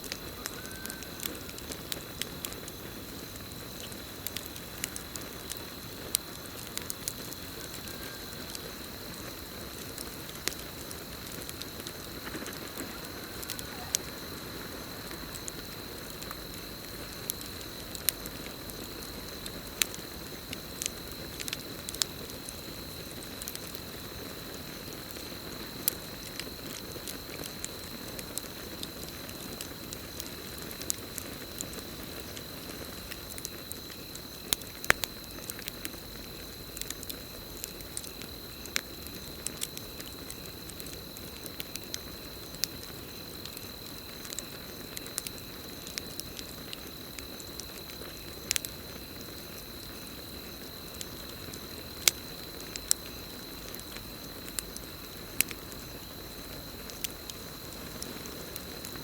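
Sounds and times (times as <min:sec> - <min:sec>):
campfire crackling: 0:00.0 - 0:59.0
crickets trilling: 0:00.0 - 0:59.0.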